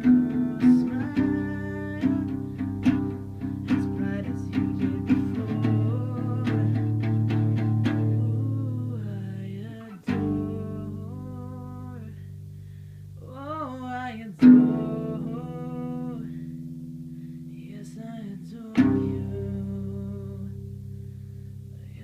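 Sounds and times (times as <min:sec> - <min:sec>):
acoustic guitar played slowly: 0:00.0 - 0:22.0.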